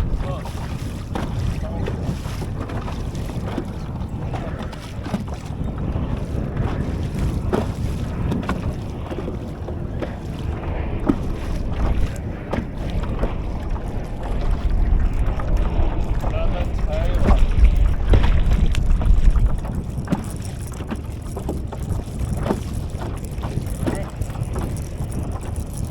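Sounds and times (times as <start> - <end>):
water splashing against hull: 0.0 - 25.9
wind buffeting microphone: 0.0 - 25.9.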